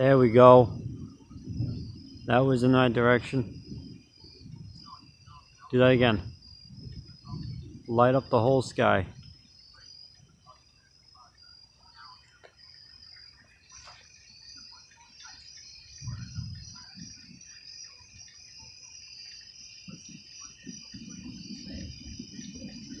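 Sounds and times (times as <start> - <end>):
crickets trilling: 0.0 - 23.0
insect chirps: 0.0 - 23.0.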